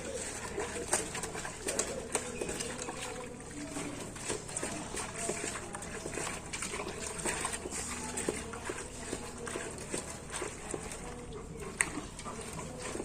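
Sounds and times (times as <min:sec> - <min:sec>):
small water splashes: 0:00.0 - 0:13.0
wet squelching of leaves: 0:00.0 - 0:13.0.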